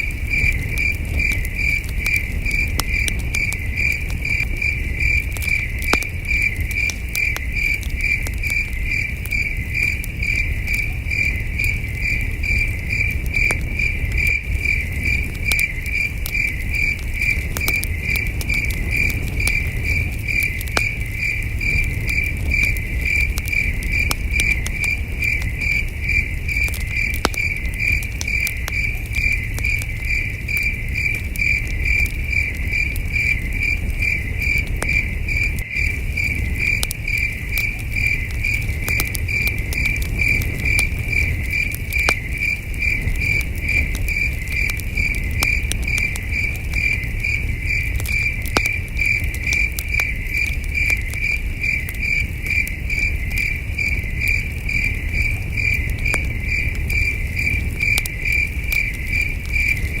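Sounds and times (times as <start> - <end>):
campfire crackling and popping: 0.0 - 60.0
crickets chirping: 0.0 - 60.0.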